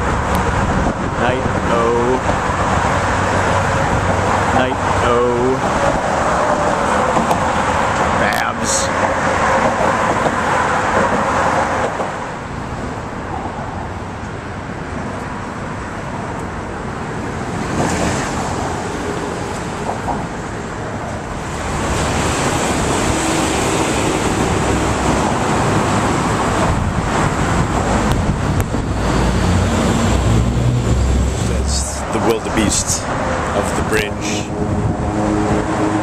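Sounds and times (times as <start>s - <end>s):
road traffic noise: 0.0s - 36.0s.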